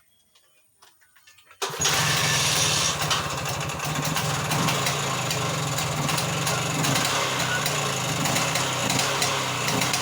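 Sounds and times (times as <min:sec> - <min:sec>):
buggy engine idling: 0:01.6 - 0:10.0.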